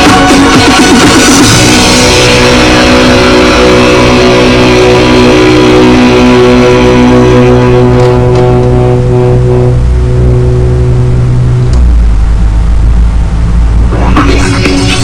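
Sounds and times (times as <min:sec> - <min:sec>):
music with sustained chords: 0:00.0 - 0:15.0.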